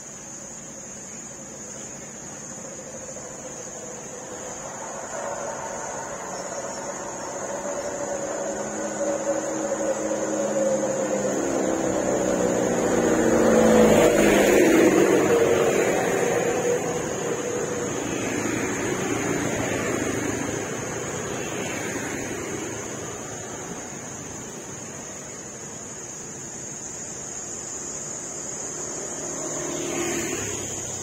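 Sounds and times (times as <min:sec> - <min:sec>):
motorbikes passing: 0:02.1 - 0:31.0
motor scooter passing: 0:02.7 - 0:25.6, 0:28.2 - 0:31.0.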